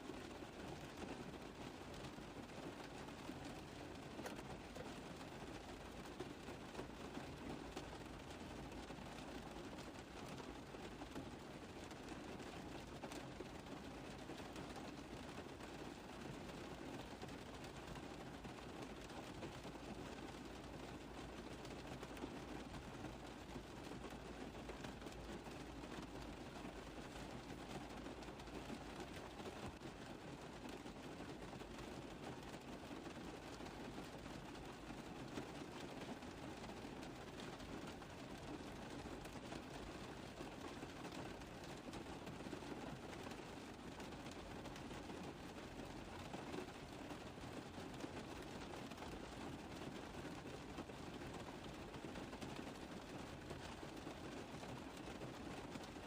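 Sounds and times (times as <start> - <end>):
rain tapping on car roof: 0.0 - 56.0.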